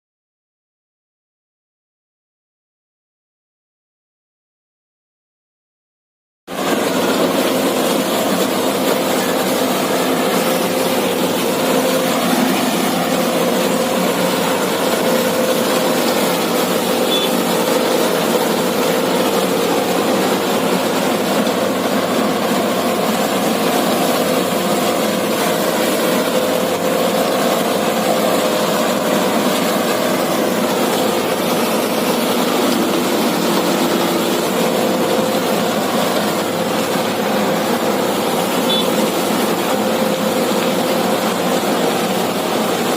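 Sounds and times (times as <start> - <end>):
diesel engine running steadily: 6.5 - 42.9.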